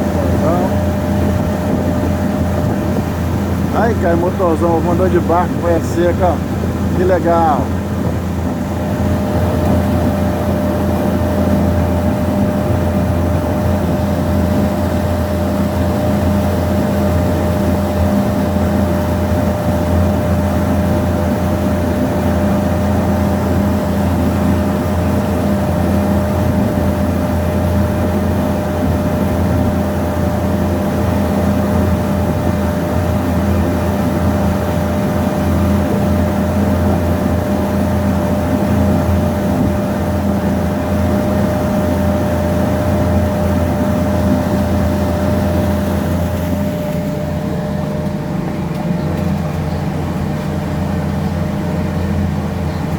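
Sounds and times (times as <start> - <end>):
boat engine drone: 0.0 - 52.9
thin steady whine: 0.0 - 52.9.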